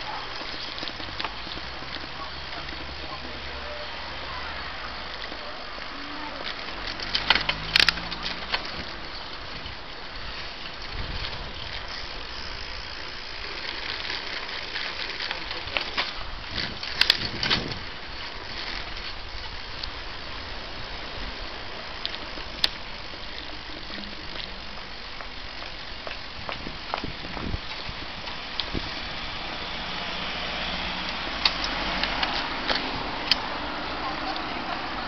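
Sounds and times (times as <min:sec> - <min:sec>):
bicycle tyres rolling: 0:00.0 - 0:35.0.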